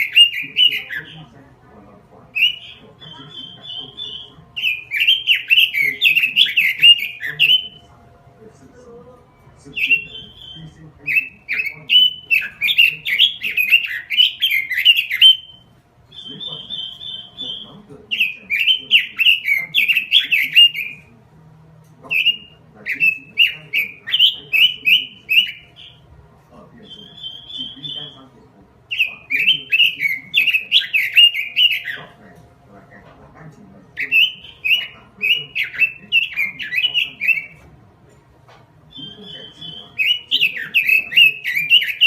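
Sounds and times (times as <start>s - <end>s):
buzzy bird trill: 0.0s - 1.4s, 2.3s - 8.0s, 9.5s - 21.1s, 22.1s - 26.1s, 26.7s - 28.3s, 28.9s - 32.4s, 33.9s - 37.7s, 38.9s - 42.0s
bird singing warbling notes: 0.0s - 42.0s.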